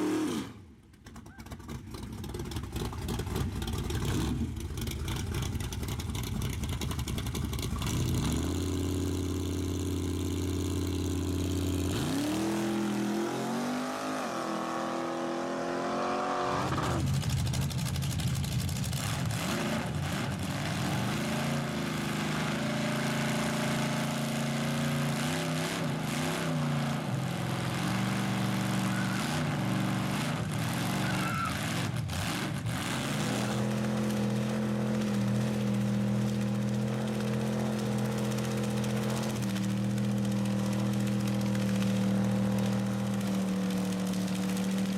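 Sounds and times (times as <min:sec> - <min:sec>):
car engine revving: 0:02.2 - 0:44.9.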